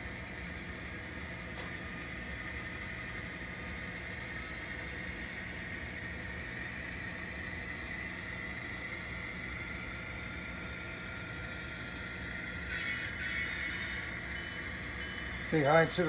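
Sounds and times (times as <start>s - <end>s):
model locomotive engine sound: 0.0s - 16.0s.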